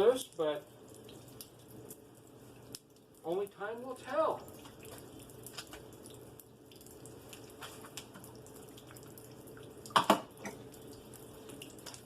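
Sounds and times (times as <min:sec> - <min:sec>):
light rain pattering: 0:00.0 - 0:12.0
small drip ticks: 0:00.2 - 0:03.6, 0:04.4 - 0:12.0.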